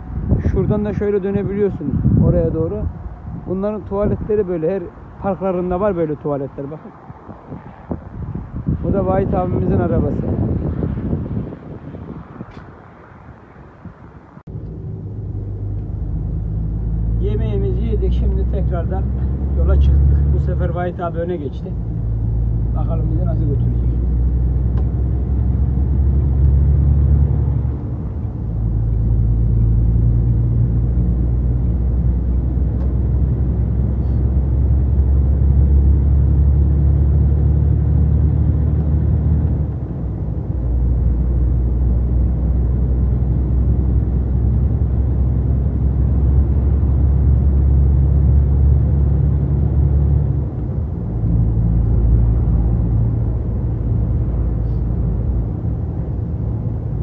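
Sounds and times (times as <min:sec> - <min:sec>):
truck cab engine and road drone: 0:00.0 - 0:57.0.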